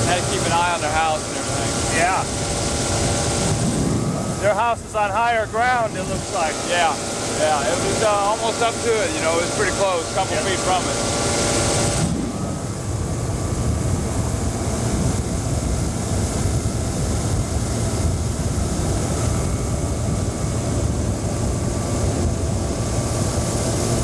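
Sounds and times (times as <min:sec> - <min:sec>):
outboard motor running: 0:00.0 - 0:24.0
rushing wind: 0:00.0 - 0:24.0
water noise: 0:00.0 - 0:24.0.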